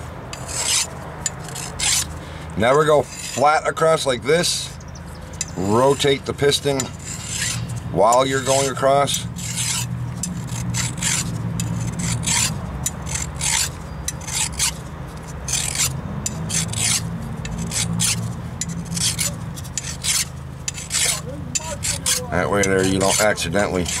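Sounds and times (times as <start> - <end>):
metal file rasping on metal: 0.3 - 24.0.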